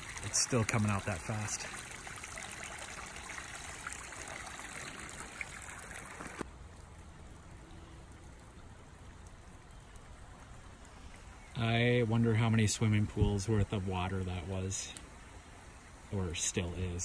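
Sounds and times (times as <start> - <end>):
water trickling onto pavement: 0.0 - 17.0.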